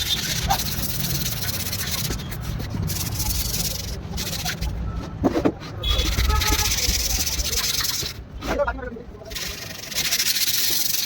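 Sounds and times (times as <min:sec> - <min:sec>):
sanding rasping on wood: 0:00.0 - 0:04.8, 0:06.0 - 0:08.6, 0:09.3 - 0:11.0.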